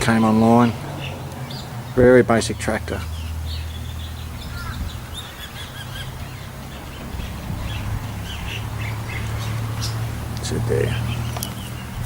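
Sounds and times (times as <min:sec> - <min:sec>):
birds calling and chirping: 0:00.0 - 0:12.0.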